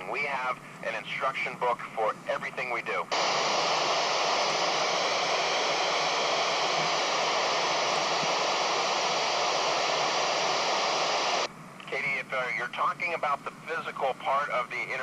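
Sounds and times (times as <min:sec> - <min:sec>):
radio static hiss: 0:00.1 - 0:15.0.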